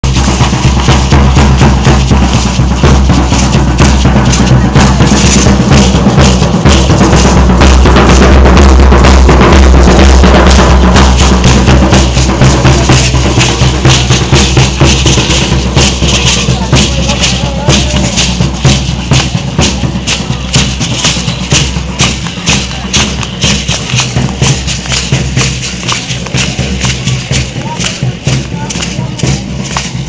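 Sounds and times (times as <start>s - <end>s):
fast dance drumming: 0.0s - 30.0s.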